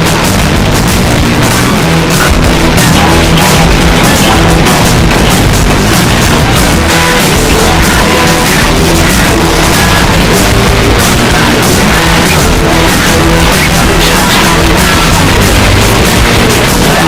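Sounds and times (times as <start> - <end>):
distorted guitar: 0.0 - 17.0
heavy rock music: 0.0 - 17.0.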